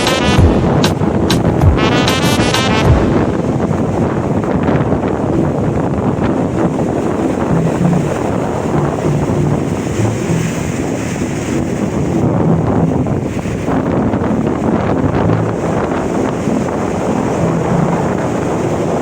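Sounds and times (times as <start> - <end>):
sea surf washing in: 0.0 - 19.0
wind buffeting microphone: 0.0 - 19.0.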